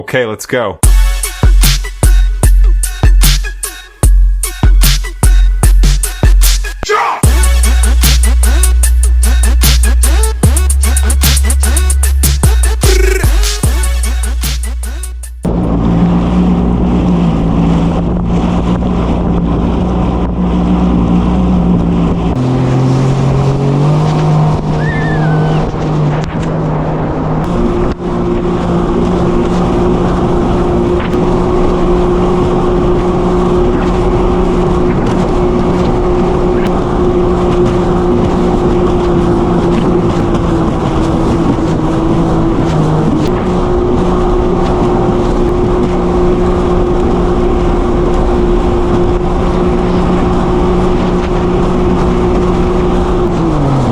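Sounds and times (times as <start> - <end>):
jet ski engine running: 0.8 - 53.9.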